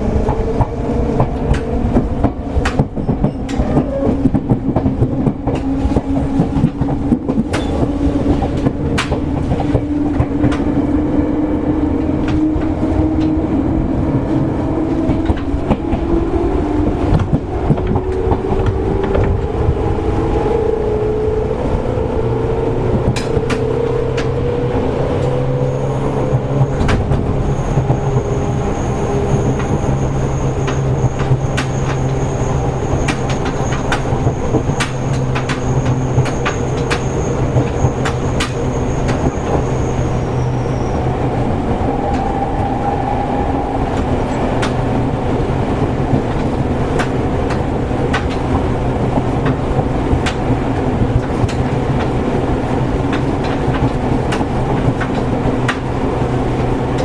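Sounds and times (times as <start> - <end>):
wheels clicking over rail joints: 0.0 - 57.0.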